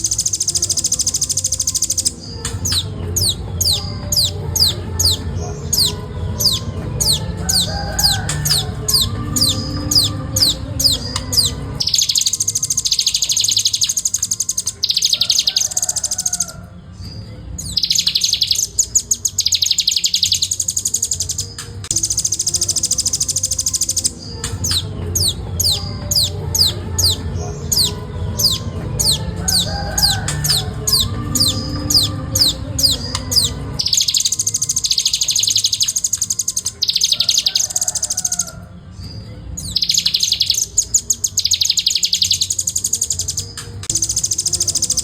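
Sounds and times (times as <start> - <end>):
nuthatch calling: 0.0 - 16.6, 17.6 - 38.7, 39.6 - 45.0.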